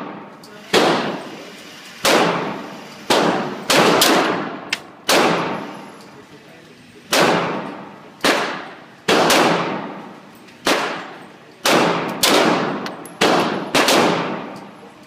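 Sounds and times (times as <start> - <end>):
pistol shots echoing indoors: 0.0 - 1.3, 2.0 - 5.8, 7.1 - 14.9.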